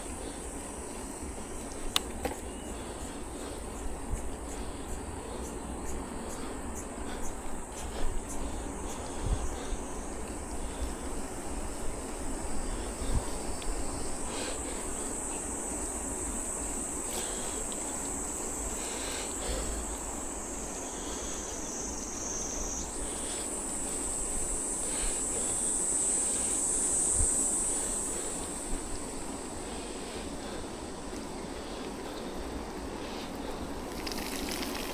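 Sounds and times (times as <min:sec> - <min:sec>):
insects buzzing: 0:00.0 - 0:34.9
wind and riding rumble: 0:00.0 - 0:34.9.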